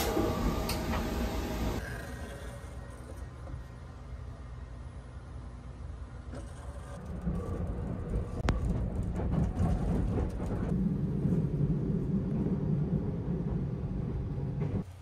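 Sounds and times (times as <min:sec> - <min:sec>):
train rumbling from inside carriage: 0:00.0 - 0:02.2, 0:02.8 - 0:15.0.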